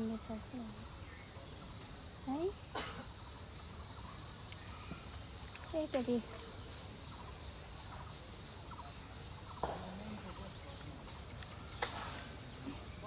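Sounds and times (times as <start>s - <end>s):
insects pulsing shrill: 0.0s - 13.0s.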